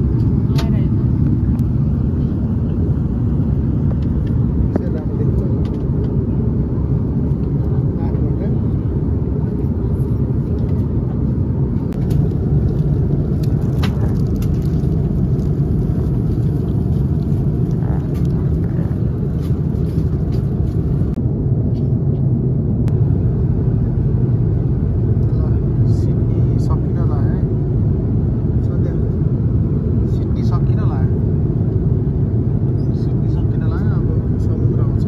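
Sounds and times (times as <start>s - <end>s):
vehicle rumbling in motion: 0.0s - 35.0s.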